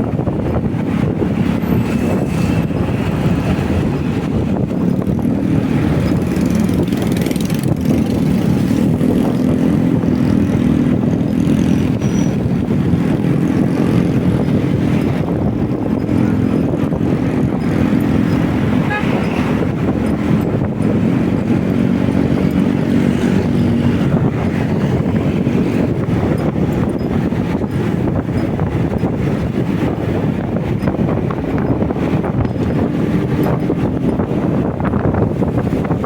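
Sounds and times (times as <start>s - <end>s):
motorcycle engine droning: 0.0s - 36.0s
wind rushing over microphone: 0.0s - 36.0s.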